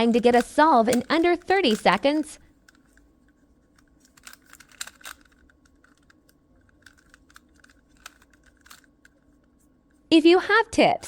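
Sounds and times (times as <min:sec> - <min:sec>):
speed cube clicking: 0:00.0 - 0:09.5.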